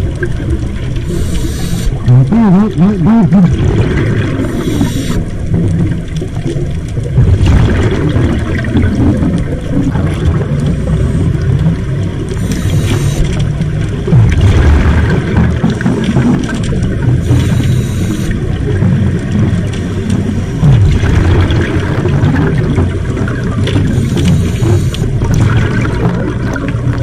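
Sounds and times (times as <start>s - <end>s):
underwater exhaled bubbles gurgling: 0.0s - 27.0s.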